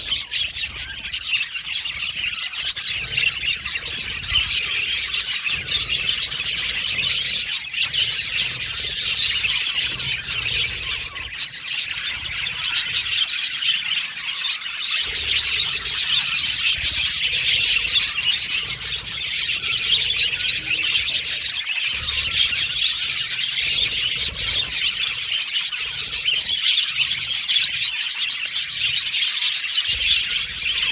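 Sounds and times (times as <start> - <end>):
budgerigars chattering and chirping: 0.0 - 30.9.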